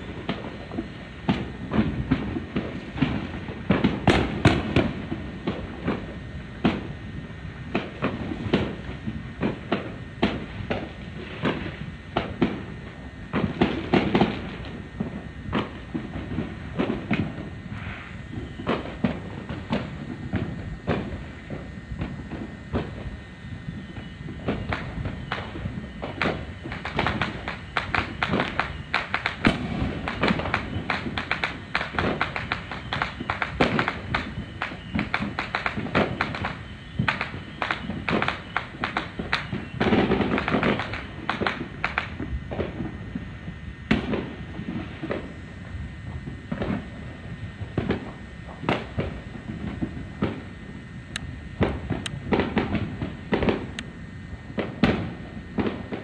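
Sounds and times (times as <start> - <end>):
fireworks bangs and pops: 0.0 - 56.0.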